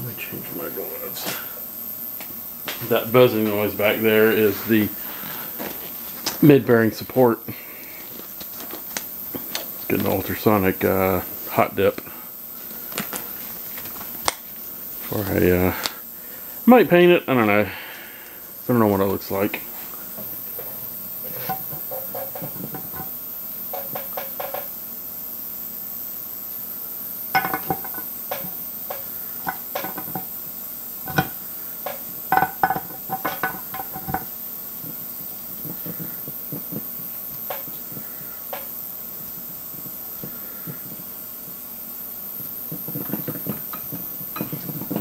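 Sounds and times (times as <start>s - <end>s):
ultrasonic cleaner buzzing: 0.0s - 45.0s.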